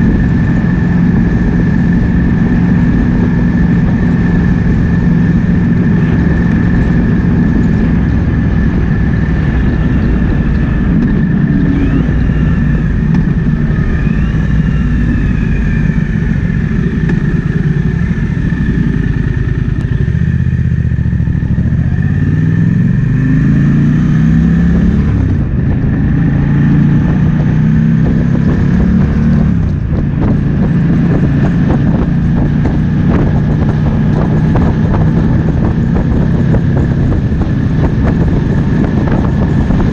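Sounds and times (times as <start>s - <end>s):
wind rushing: 0.0s - 19.8s, 21.2s - 39.9s
motorcycle engine running: 0.0s - 39.9s.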